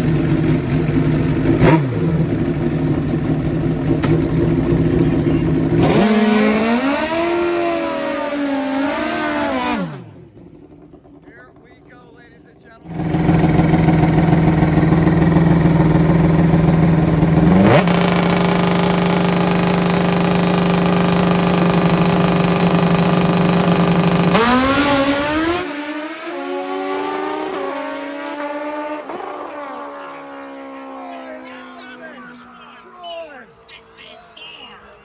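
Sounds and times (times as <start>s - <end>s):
drag bike engines revving: 0.0s - 35.0s.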